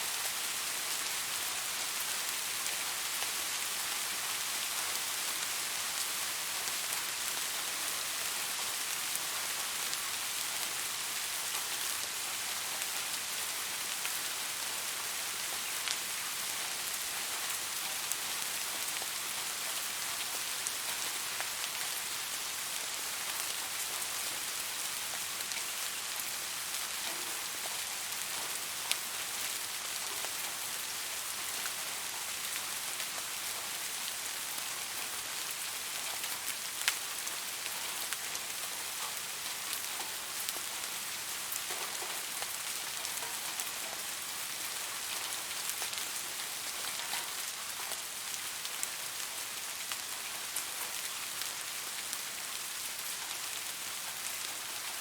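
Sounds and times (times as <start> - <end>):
steady rain hiss: 0.0 - 55.0
raindrops ticking on a surface: 0.1 - 55.0.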